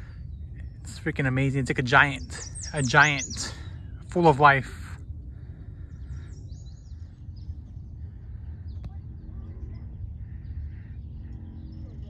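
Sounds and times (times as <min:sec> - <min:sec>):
birds chirping: 0:00.0 - 0:12.0
wind rumble on microphone: 0:00.0 - 0:12.0.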